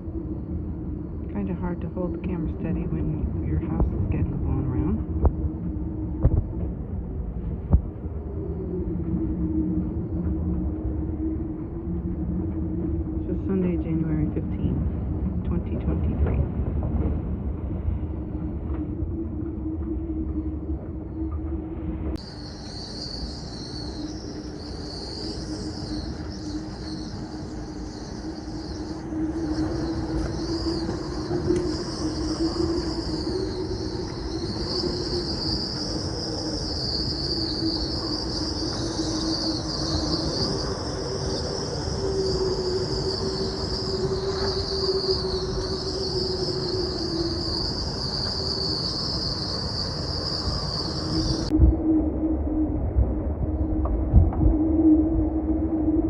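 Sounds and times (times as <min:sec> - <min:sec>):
steady rush of wind: 0:00.0 - 0:56.0
wind whistling through rigging: 0:00.0 - 0:56.0.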